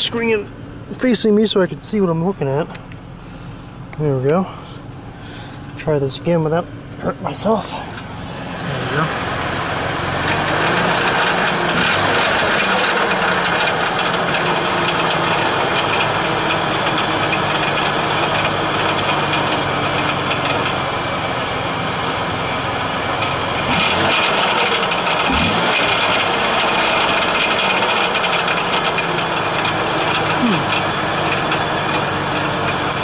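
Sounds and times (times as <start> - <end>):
car engine idling: 0.0 - 33.0
exhaust rattle: 0.0 - 33.0.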